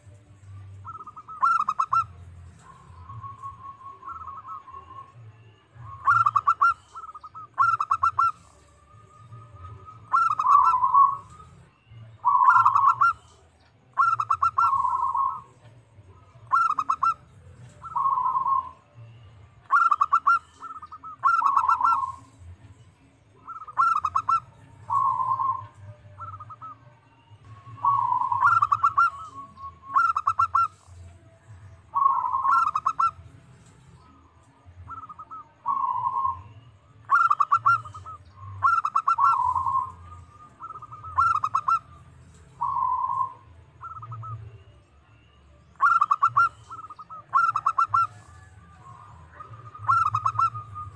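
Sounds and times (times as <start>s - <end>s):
dove cooing: 0.6s - 5.2s, 5.8s - 22.4s, 23.3s - 26.9s, 27.6s - 31.0s, 31.9s - 33.3s, 34.1s - 44.5s, 45.7s - 50.9s.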